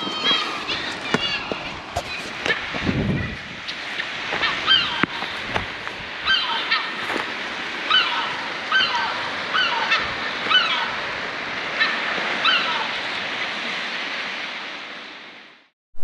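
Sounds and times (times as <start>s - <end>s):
seabirds calling: 0.0s - 14.9s
surf washing: 0.0s - 15.7s.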